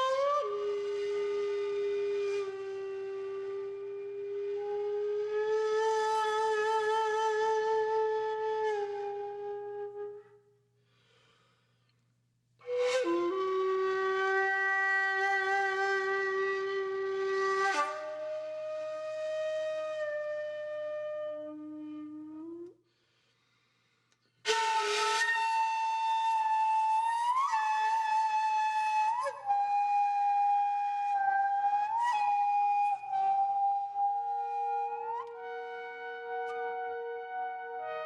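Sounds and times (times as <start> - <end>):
calm flute-like melody: 0.0 - 10.6, 12.6 - 22.8, 24.4 - 38.0.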